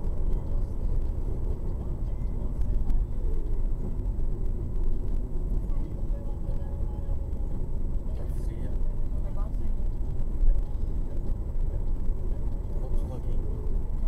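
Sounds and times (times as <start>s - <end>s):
car driving at speed: 0.0s - 14.0s.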